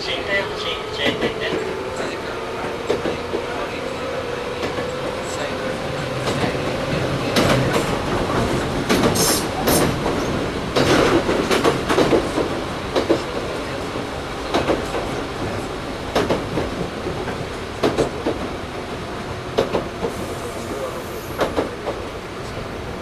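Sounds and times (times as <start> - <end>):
train car rumble: 0.0 - 23.0
wheels clacking over rail joints: 1.0 - 20.2.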